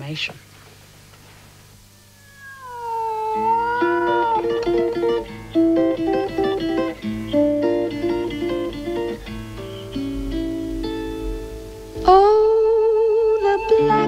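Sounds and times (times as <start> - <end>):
picked plucked strings melody: 2.5 - 14.0.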